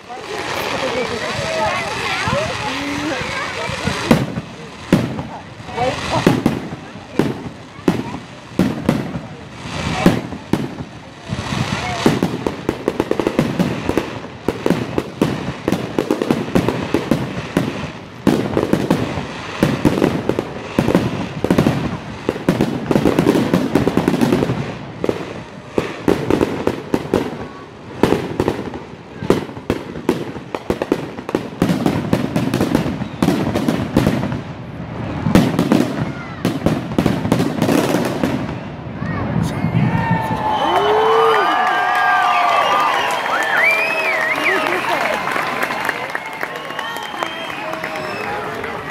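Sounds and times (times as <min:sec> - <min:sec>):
fireworks bursting with bangs and crackles: 0:00.0 - 0:48.9.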